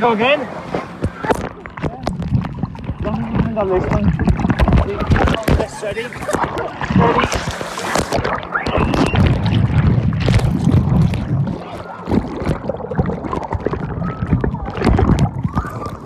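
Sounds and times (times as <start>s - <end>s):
underwater churning and bubbles: 0.0s - 16.0s.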